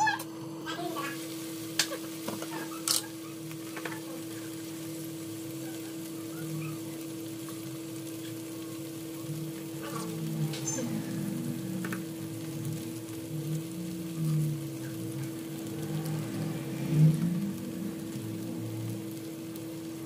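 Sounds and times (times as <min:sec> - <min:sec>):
constant hum: 0:00.0 - 0:20.0
food sizzling in a pan: 0:00.0 - 0:20.0.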